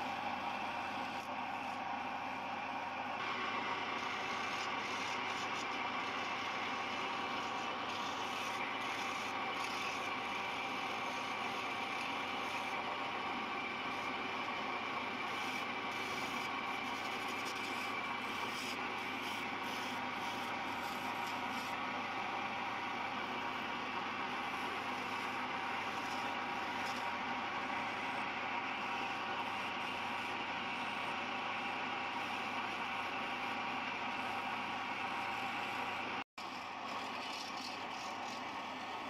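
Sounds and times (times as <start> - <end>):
wood lathe whining: 0.0 - 39.0.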